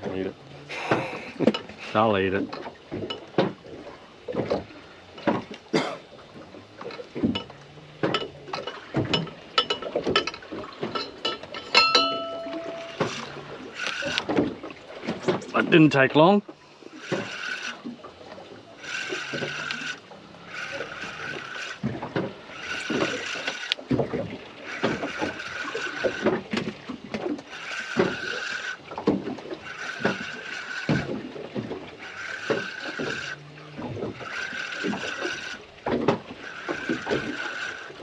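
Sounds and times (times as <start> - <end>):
fishing reel gears whirring: 0.0 - 38.0
water splashes: 0.0 - 38.0.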